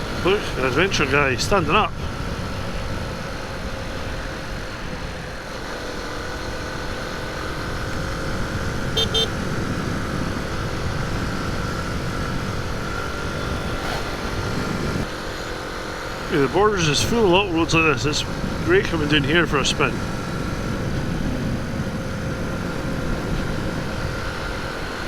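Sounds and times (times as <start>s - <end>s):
motorcycle engine running: 0.0s - 25.0s
wind and road rumble: 0.0s - 25.0s.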